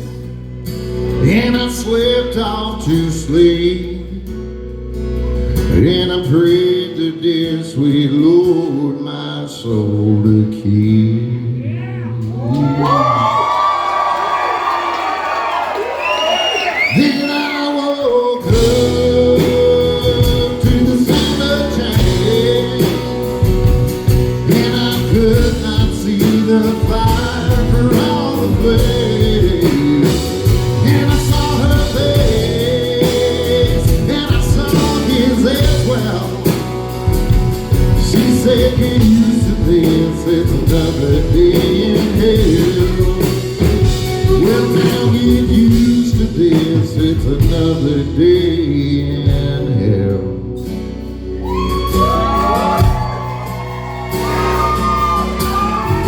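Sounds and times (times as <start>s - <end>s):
live country band playing: 0.0s - 56.0s.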